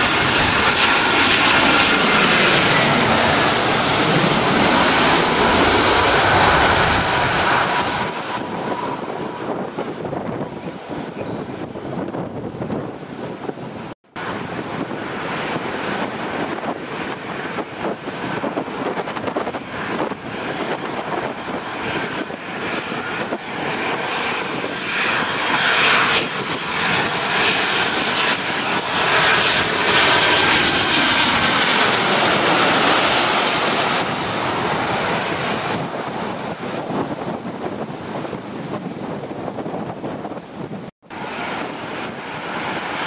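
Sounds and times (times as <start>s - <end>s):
jet engines whining overhead: 0.0s - 43.0s
wind buffeting microphone: 0.0s - 43.0s.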